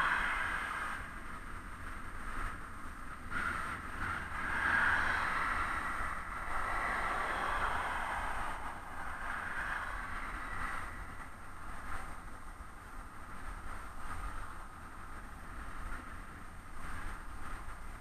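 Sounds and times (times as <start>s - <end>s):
passing cars: 0.0s - 18.0s
wind rumble on microphone: 0.0s - 18.0s.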